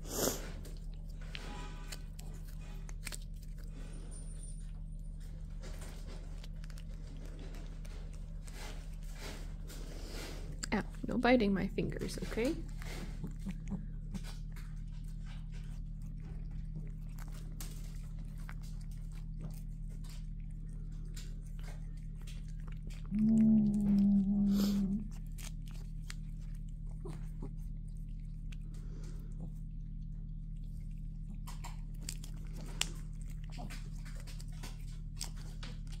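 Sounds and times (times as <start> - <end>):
cats licking and smacking: 0.0 - 36.0
steady low hum: 0.0 - 36.0.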